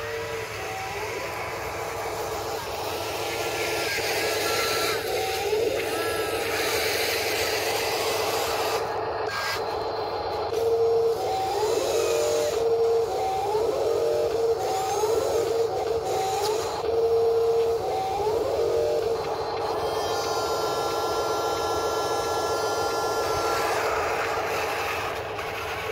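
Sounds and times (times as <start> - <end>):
toy loader motors whining: 0.0 - 25.9.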